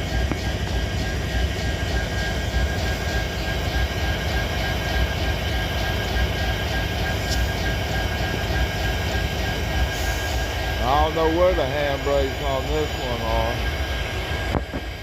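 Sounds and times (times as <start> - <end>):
locomotive diesel engine idling: 0.0 - 15.0
thin steady whine: 0.0 - 15.0.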